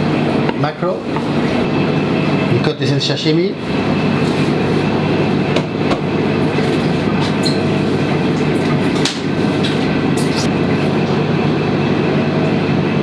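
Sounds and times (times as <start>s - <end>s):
mechanical hum and rumble: 0.0s - 13.0s.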